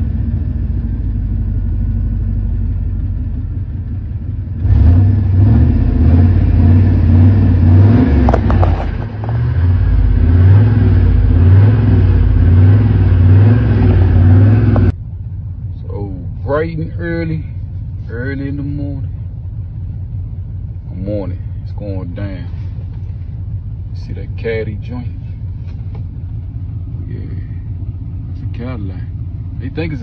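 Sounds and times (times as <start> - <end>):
car engine running unevenly: 0.0 - 30.0.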